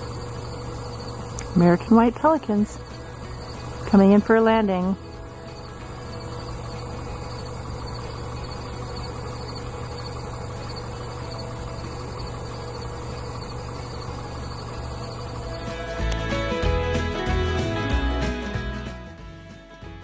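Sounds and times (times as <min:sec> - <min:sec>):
crickets chirping: 0:00.0 - 0:16.1
vehicle engine idling: 0:00.0 - 0:17.6.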